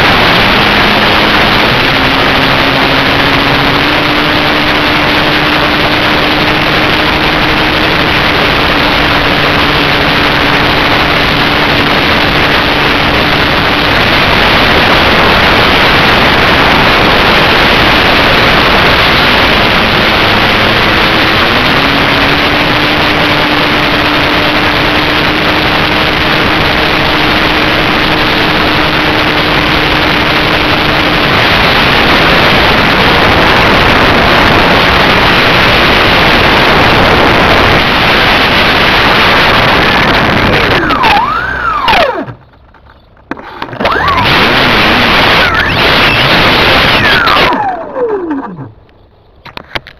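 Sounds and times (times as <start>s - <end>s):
model plane motor and propeller: 0.0s - 49.9s
rushing wind: 0.0s - 49.9s.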